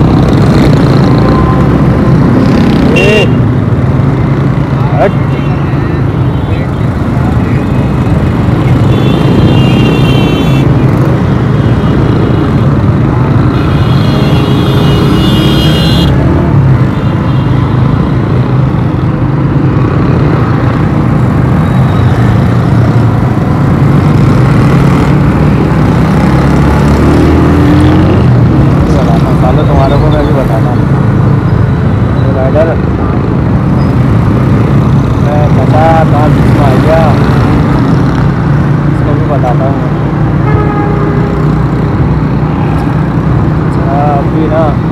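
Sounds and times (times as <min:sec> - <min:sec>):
motorcycle running: 0:00.0 - 0:44.9
road and wind noise: 0:00.0 - 0:44.9.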